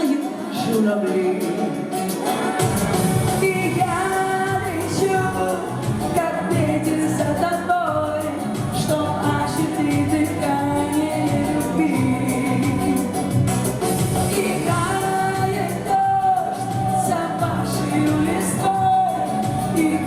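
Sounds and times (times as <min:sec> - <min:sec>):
pop song with steady beat: 0:00.0 - 0:20.0
woman singing: 0:00.0 - 0:20.0.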